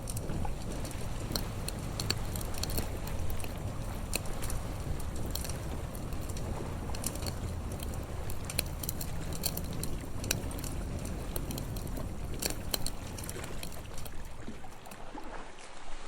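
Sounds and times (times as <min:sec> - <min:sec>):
campfire crackling and popping: 0:00.0 - 0:15.3
low rumble of the sea: 0:00.0 - 0:16.0.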